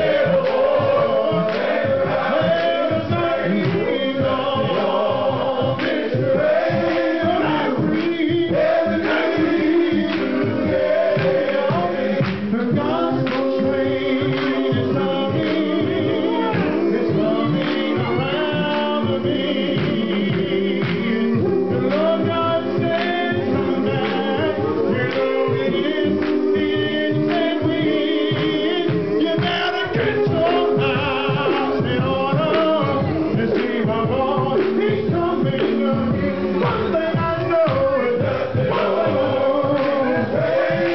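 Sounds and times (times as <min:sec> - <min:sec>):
lead vocalist singing: 0:00.0 - 0:40.9
men's choir singing: 0:00.0 - 0:40.9
steady beat: 0:00.0 - 0:40.9.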